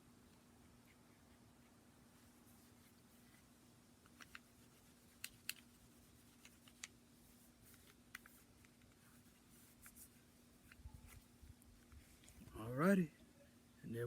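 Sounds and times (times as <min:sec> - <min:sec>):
quiet steady hum: 0:00.0 - 0:14.0.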